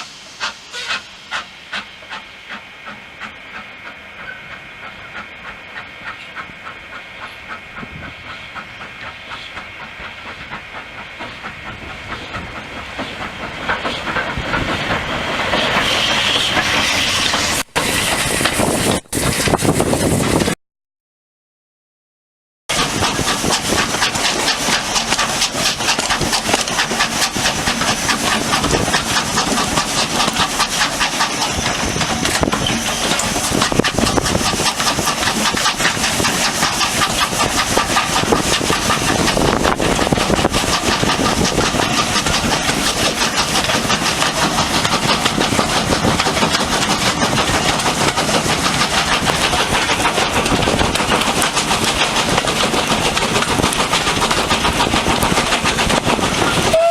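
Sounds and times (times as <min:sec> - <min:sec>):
steam locomotive exhaust beat: 0:00.0 - 0:20.6, 0:22.7 - 0:56.9.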